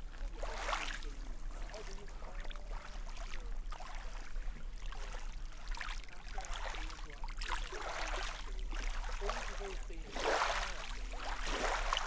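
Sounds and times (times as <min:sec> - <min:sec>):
small waves lapping on shore: 0:00.0 - 0:12.0.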